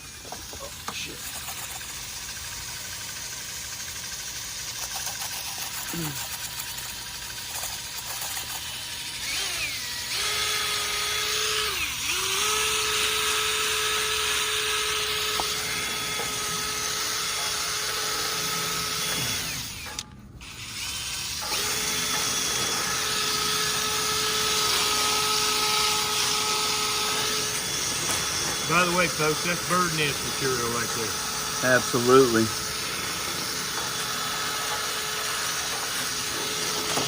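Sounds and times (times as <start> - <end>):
power drill whining: 0.0 - 37.0.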